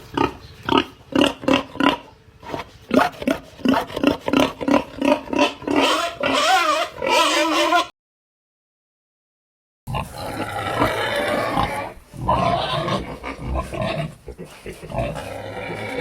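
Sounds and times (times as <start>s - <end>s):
pig grunting: 0.0s - 7.9s, 9.9s - 16.0s
pig squealing: 0.1s - 7.9s, 9.9s - 16.0s.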